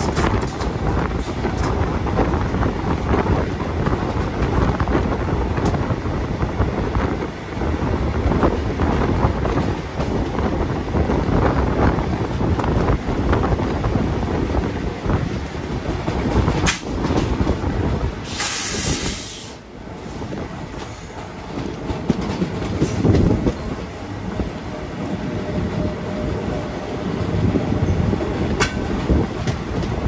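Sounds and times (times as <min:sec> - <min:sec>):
train engines and wheels rumbling: 0:00.0 - 0:30.0
wind buffeting microphone: 0:00.0 - 0:30.0.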